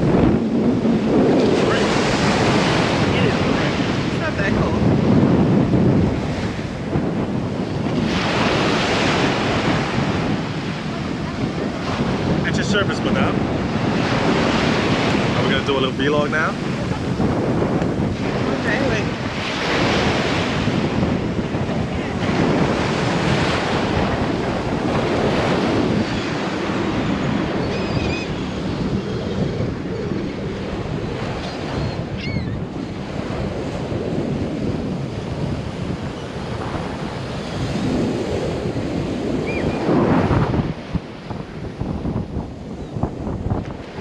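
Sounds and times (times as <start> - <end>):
ocean waves breaking on beach: 0.0 - 44.0
wind buffeting microphone: 0.0 - 44.0.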